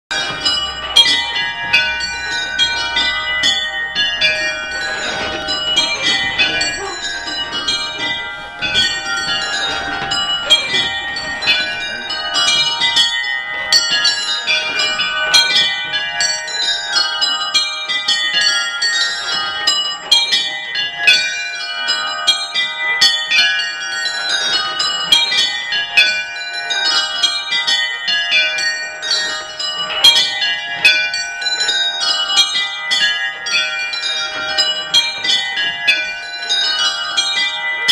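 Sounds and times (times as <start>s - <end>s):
small bells ringing in rounds: 0.1s - 37.9s.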